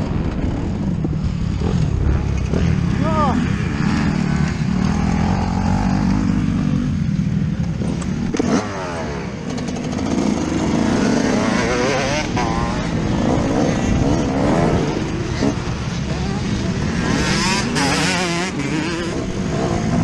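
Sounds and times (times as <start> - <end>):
two-stroke motorbike engine revving: 1.5 - 20.0.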